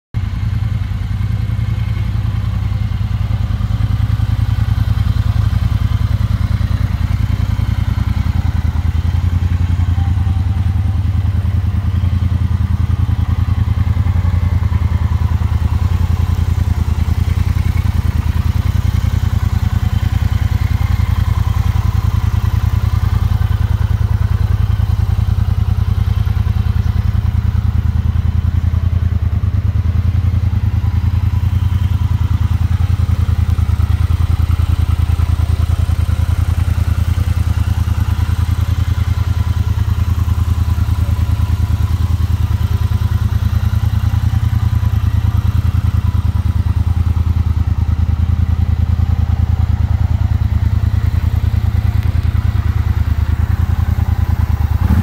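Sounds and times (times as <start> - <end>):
motorcycle engine idling: 0.2 - 55.0.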